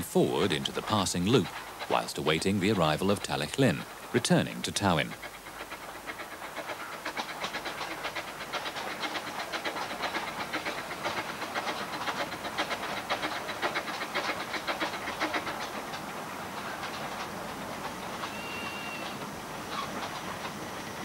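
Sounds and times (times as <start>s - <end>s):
steam locomotive running: 0.0s - 21.0s.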